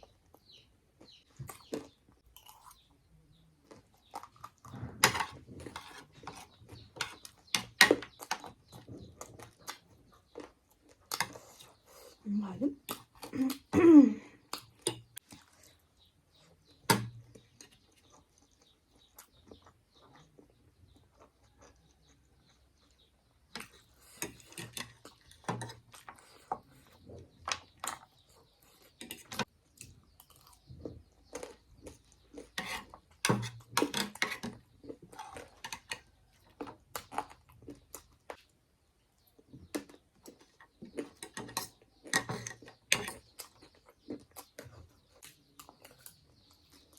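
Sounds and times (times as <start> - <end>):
crunchy chewing: 0.0 - 12.2, 14.4 - 46.9.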